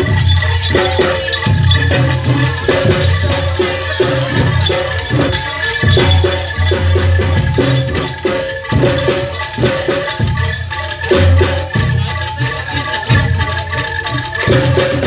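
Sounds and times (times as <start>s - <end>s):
drum strokes: 0.0s - 15.0s
mallet-struck metal percussion: 0.0s - 15.0s.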